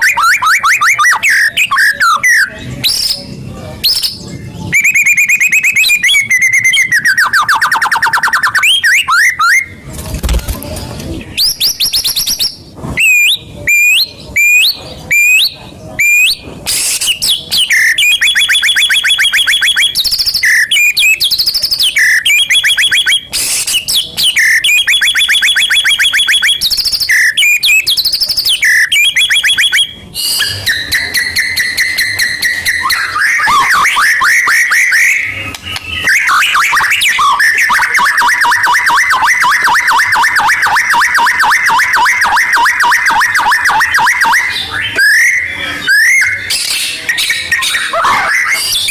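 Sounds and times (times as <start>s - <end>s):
bird singing fast trills: 0.0s - 9.8s, 11.2s - 48.9s.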